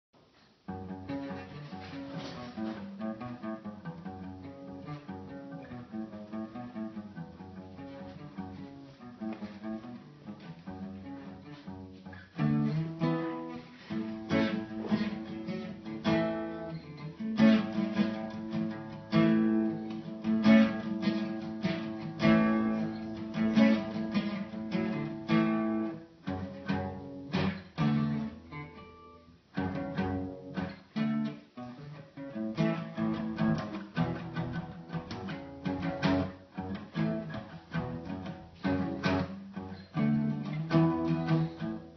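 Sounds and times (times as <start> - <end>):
guitar plucked and strummed: 0.7 - 41.9.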